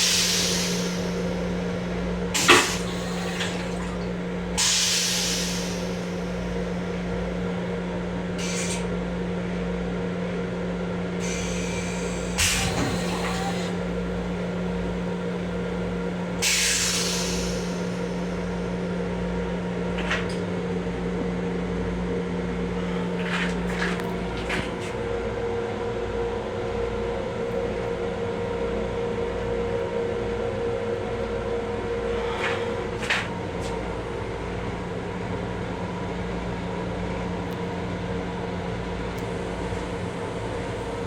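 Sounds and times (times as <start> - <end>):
electric train hum: 0.0 - 41.0.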